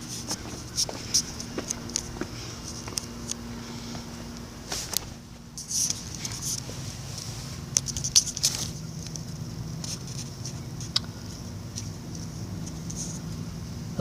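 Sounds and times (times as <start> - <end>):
light rustling and scraping: 0.0 - 13.5
faint low hum: 0.0 - 14.0.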